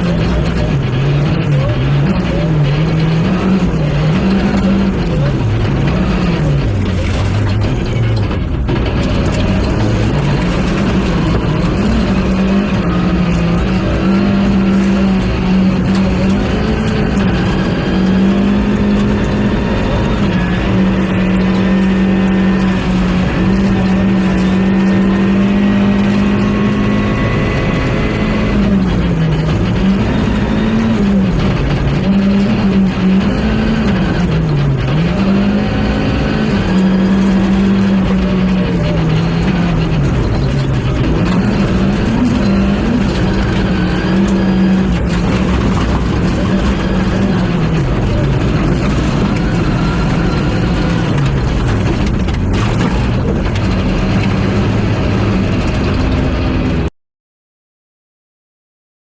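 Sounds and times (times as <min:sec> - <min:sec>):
rally car engine at high revs: 0:00.0 - 0:56.9.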